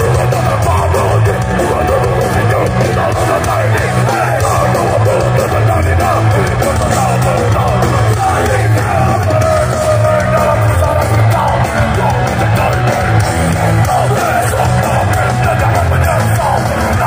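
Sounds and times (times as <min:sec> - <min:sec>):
heavy metal band playing live: 0:00.0 - 0:17.0
yelled lead vocal: 0:00.0 - 0:17.0.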